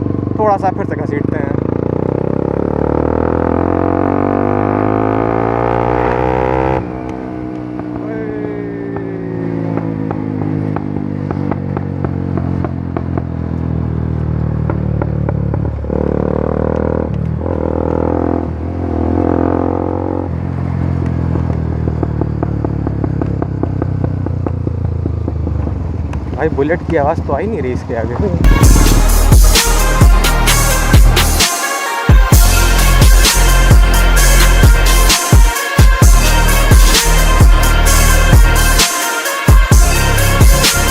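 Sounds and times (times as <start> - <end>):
motorcycle engine accelerating: 0.0 - 38.8.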